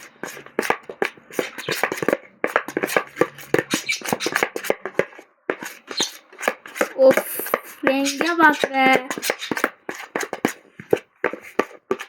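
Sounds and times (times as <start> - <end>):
slime squelching: 0.0 - 12.0.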